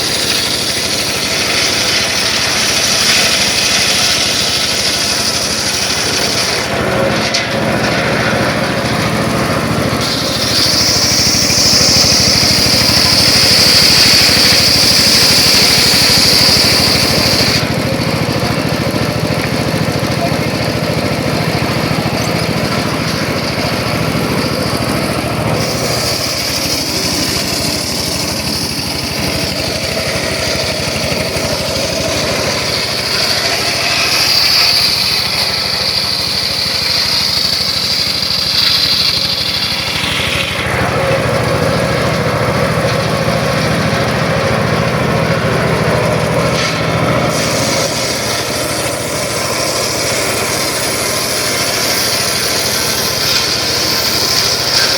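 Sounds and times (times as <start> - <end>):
circular saw running: 0.0 - 54.9
saw blade whining through wood: 0.0 - 54.9.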